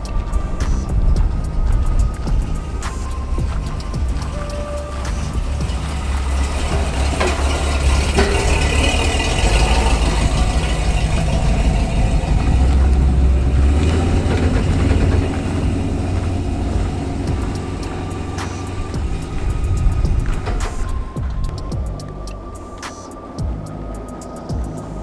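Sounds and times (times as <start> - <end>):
pickup truck engine rumbling: 0.0 - 25.0.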